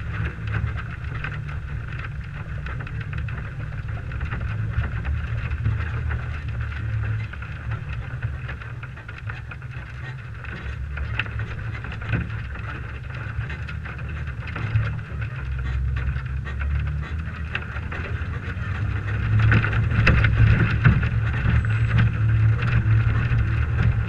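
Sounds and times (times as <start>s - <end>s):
engine and drivetrain rumble: 0.0s - 24.0s.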